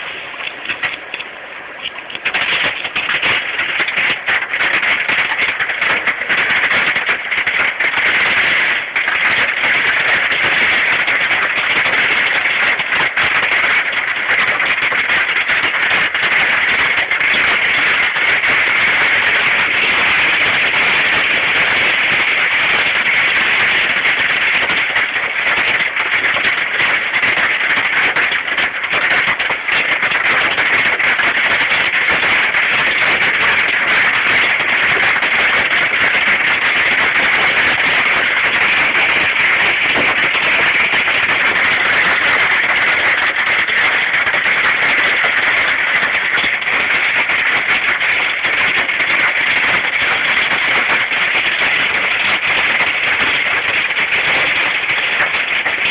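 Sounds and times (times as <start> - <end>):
hailstones pelting down: 0.0 - 55.9.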